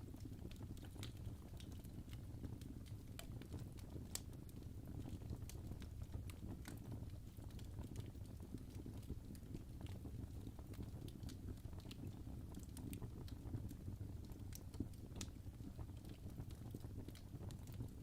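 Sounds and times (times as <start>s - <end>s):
burning logs crackling and popping: 0.0s - 18.0s.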